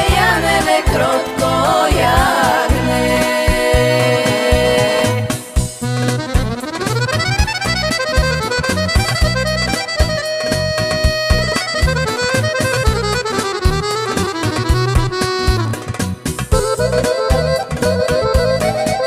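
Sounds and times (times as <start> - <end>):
accordion playing folk tune: 0.0 - 19.0.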